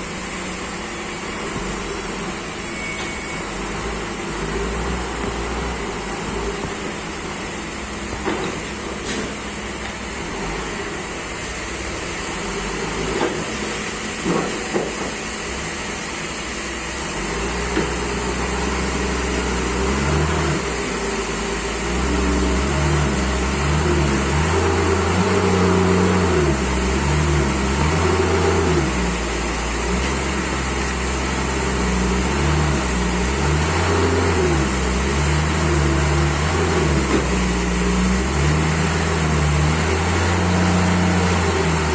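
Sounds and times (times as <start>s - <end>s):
forklift engine revving: 0.0s - 41.9s.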